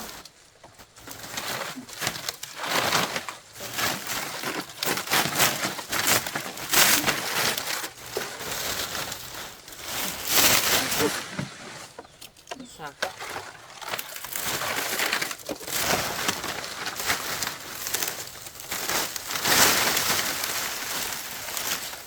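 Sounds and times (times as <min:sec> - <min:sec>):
thatch leaves rustling and crackling: 0:00.0 - 0:22.0.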